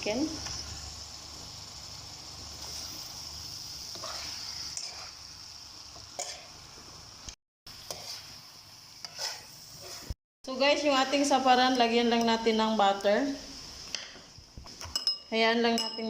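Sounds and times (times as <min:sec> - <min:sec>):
chicken sizzling in a pan: 0:00.0 - 0:14.8.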